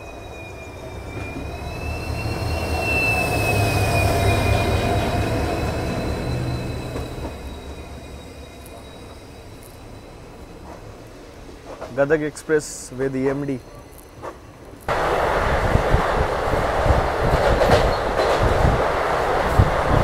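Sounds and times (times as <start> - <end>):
diesel locomotive engine rumble: 0.0 - 20.0
train coaches rolling past: 0.0 - 20.0.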